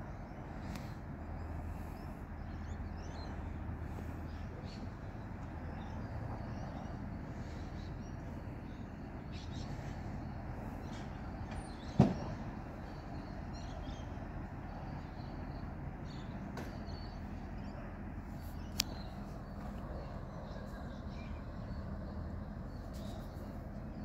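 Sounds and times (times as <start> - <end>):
distant garbage truck running: 0.0 - 24.0.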